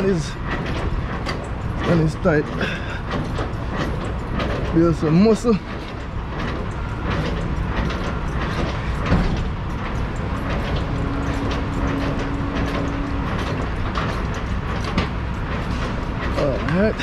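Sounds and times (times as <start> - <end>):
crank turning with clicks: 0.0 - 17.0
truck idling: 0.0 - 17.0.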